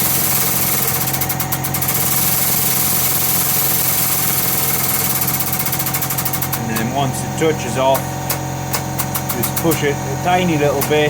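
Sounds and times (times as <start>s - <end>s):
shop press mechanical hum: 0.0s - 11.0s.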